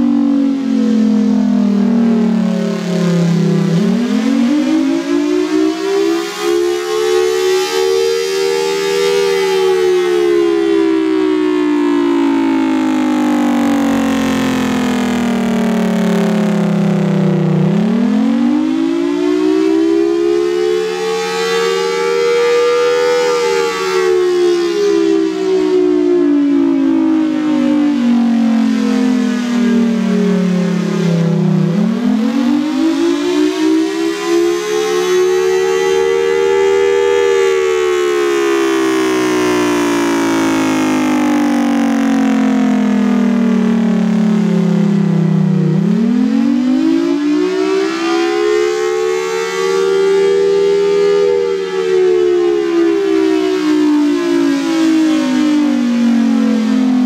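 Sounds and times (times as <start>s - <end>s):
warning siren slow wail: 0.0s - 57.0s.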